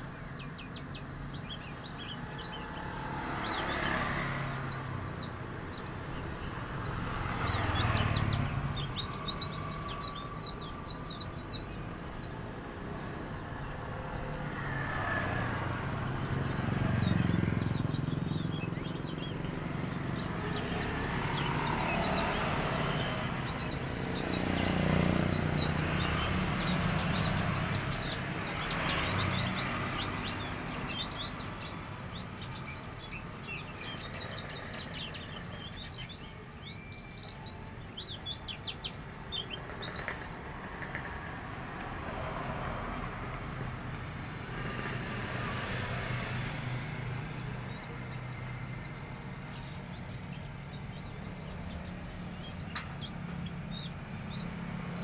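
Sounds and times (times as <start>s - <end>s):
bird twittering chirps: 0.0s - 55.0s
passing traffic rumble: 0.0s - 55.0s.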